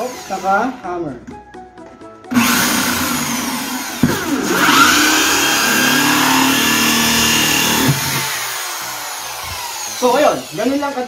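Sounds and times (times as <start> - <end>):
electric drill cutting plastic: 0.0 - 0.8, 2.3 - 11.0.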